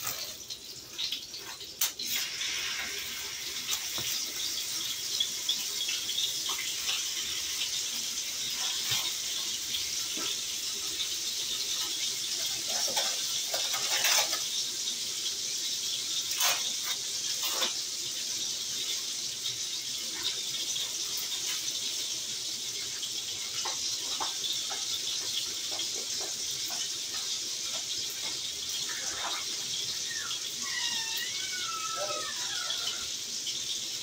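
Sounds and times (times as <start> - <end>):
food sizzling in skillet: 0.0 - 34.0.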